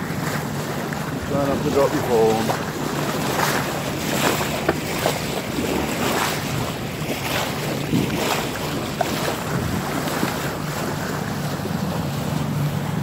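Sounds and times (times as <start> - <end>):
bow wave splashing along hull: 0.0 - 13.0
wind buffeting microphone: 0.0 - 13.0.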